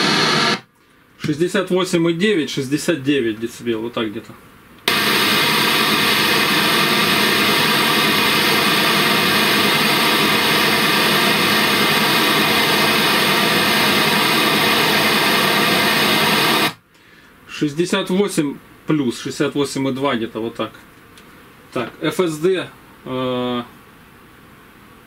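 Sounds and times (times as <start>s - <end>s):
test noise hiss from speaker: 0.0s - 25.0s.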